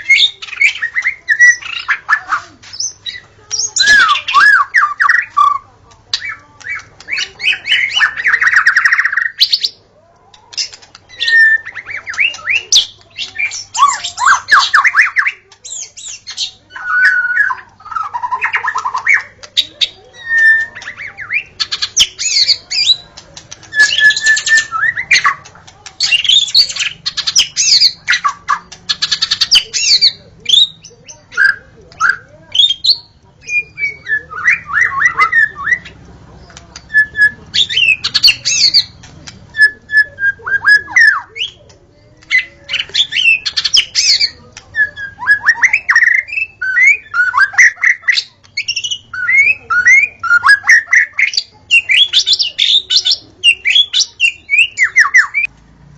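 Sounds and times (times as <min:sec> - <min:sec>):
bird singing whistles and trills: 0:00.0 - 0:02.2, 0:02.8 - 0:05.6, 0:10.6 - 0:23.0, 0:23.7 - 0:36.0, 0:36.8 - 0:38.9, 0:39.5 - 0:41.7, 0:42.3 - 0:55.5.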